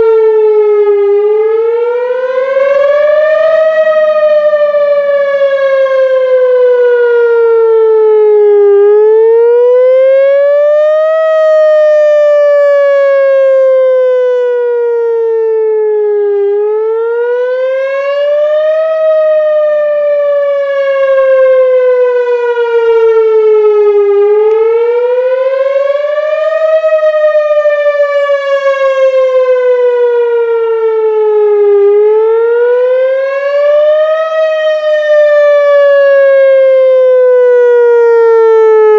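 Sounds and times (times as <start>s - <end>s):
wailing warning siren: 0.0s - 38.9s.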